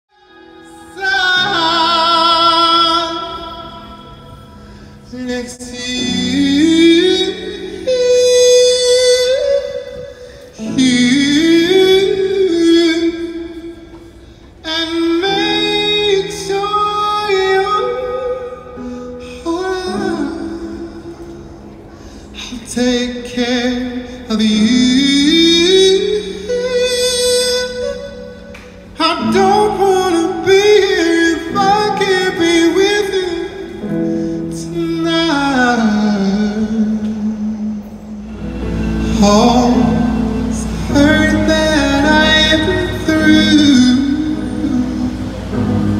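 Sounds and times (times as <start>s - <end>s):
man singing into microphone: 0.1s - 45.9s
sustained backing chords: 0.1s - 45.9s.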